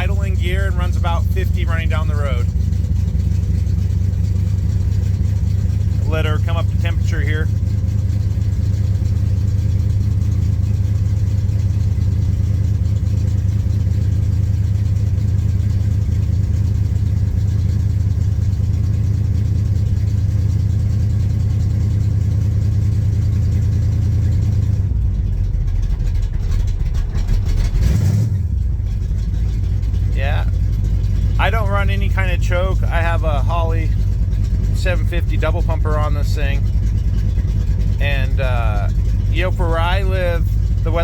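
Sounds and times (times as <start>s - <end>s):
lumpy engine idling: 0.0s - 41.0s.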